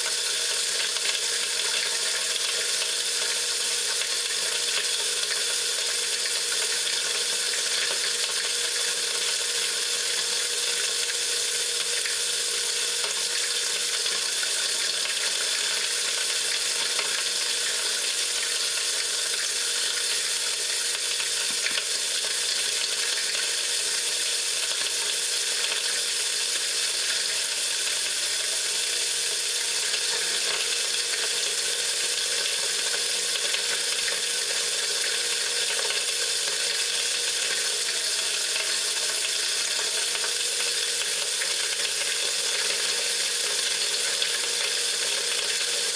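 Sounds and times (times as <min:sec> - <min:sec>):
grinder milling dry corn: 0:00.0 - 0:45.9.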